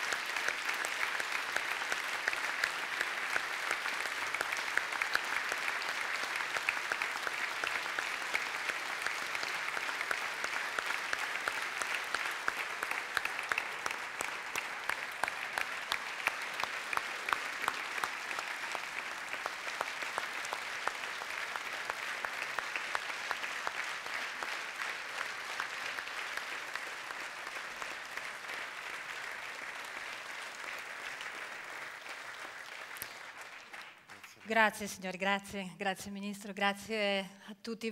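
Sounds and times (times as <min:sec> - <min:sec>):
audience applauding: 0:00.0 - 0:34.9.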